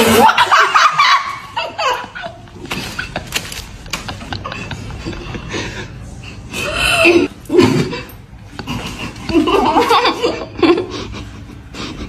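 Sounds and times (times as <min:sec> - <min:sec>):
young women laughing and giggling: 0:00.0 - 0:06.4, 0:07.2 - 0:12.0.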